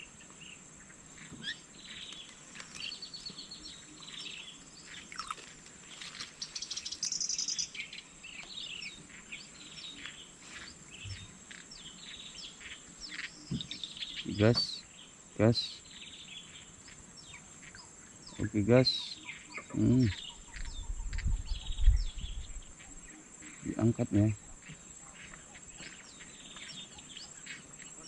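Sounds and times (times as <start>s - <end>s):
birds chirping: 0.0s - 28.0s
high insect drone: 0.0s - 28.0s.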